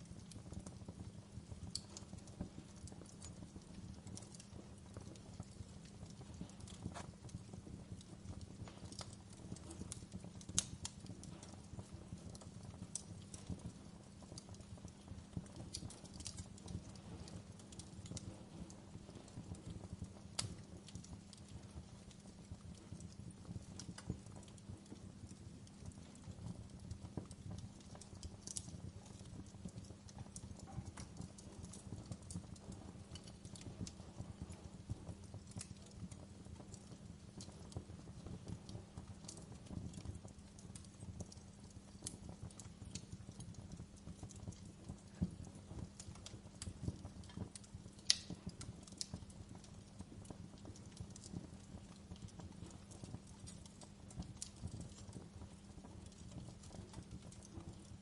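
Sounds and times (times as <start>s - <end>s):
sharp pops of fire: 0.0s - 58.0s
wood fire crackling in fireplace: 0.0s - 58.0s.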